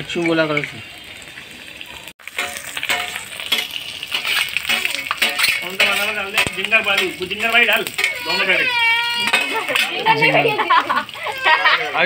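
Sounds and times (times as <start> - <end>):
food deep-frying in hot oil: 0.0 - 12.0
onion sizzling in oil: 0.0 - 12.0.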